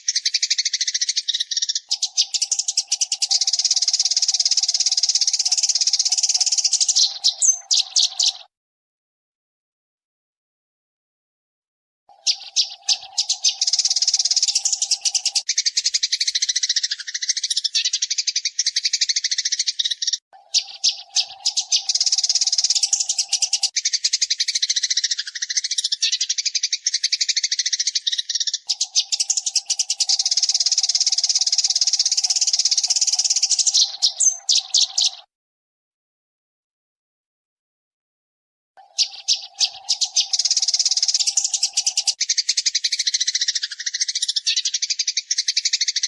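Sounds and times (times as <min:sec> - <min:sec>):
sparrow chirping chatter: 0:00.0 - 0:08.5, 0:12.1 - 0:35.3, 0:38.8 - 0:46.0.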